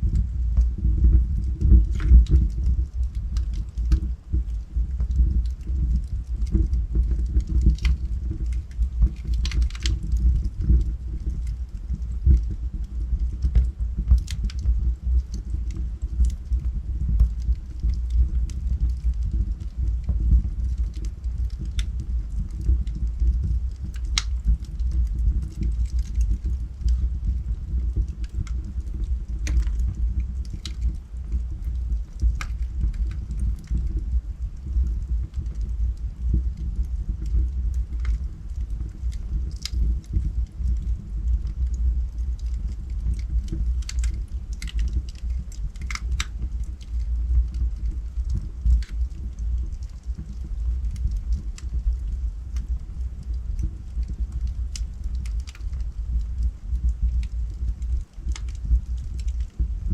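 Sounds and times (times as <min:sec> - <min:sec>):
fire rumbling: 0:00.0 - 0:59.9
logs crackling and popping: 0:00.0 - 0:59.9.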